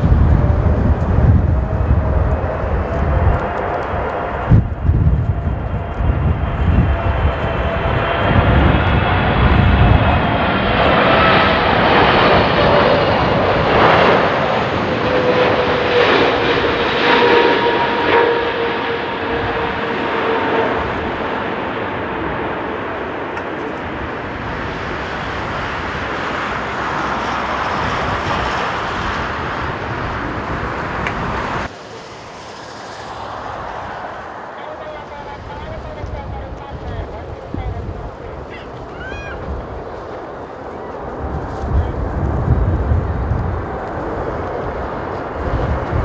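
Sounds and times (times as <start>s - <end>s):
distant jet roar: 0.0s - 46.0s
jet roar with whining tones: 0.0s - 46.0s.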